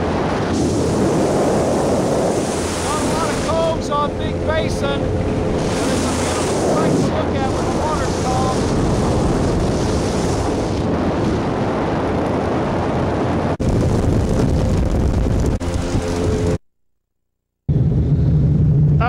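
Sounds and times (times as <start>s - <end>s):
motorboat engine: 0.0s - 16.6s
wind on microphone: 0.0s - 16.6s.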